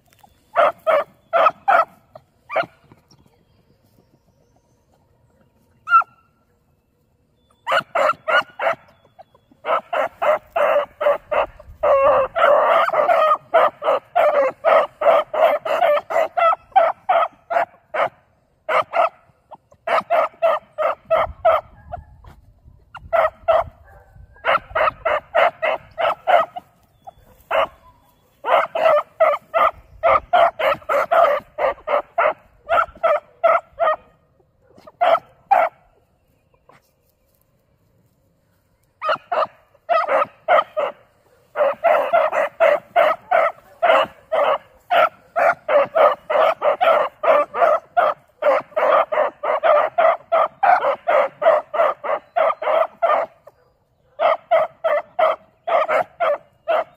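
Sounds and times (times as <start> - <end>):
puppies yipping: 0.0 - 6.4, 7.5 - 34.1, 39.0 - 56.9.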